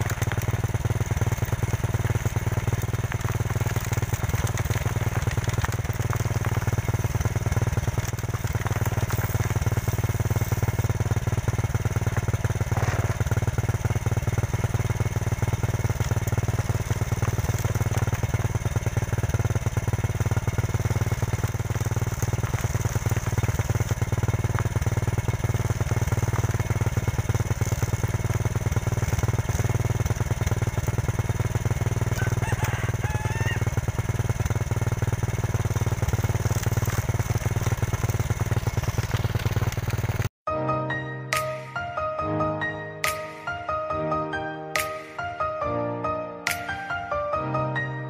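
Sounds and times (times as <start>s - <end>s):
fast clicking of corn kernels: 0.0s - 40.3s
motorcycle engine running: 0.0s - 40.4s.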